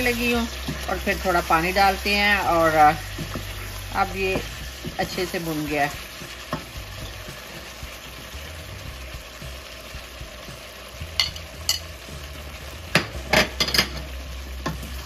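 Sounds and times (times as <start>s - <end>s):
curry sizzling in a pot: 0.0s - 15.0s.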